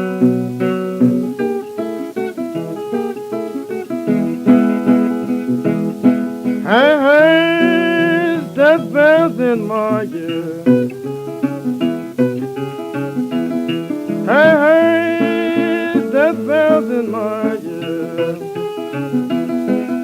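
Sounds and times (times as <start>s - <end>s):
acoustic guitar country blues: 0.0s - 20.0s
person singing: 1.2s - 11.4s, 13.8s - 20.0s.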